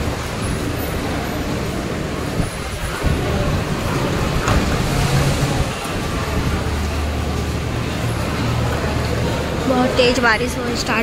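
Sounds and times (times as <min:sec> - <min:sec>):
station platform noise: 0:00.0 - 0:11.0.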